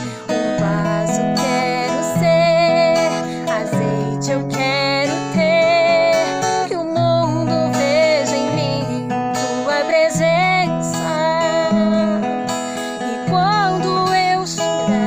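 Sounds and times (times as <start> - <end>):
strummed acoustic guitar: 0.0 - 15.0
woman singing with vibrato: 0.0 - 15.0.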